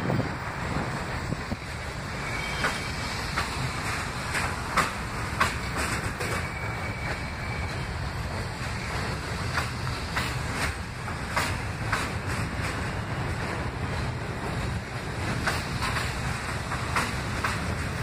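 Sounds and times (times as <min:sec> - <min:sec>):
train low rumble: 0:00.0 - 0:18.0
wheels clicking over rail joints: 0:00.0 - 0:18.0.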